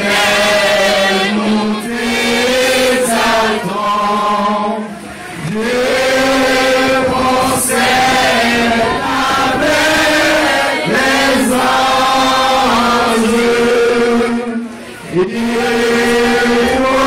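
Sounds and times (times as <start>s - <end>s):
group chanting in held notes: 0.0s - 17.0s.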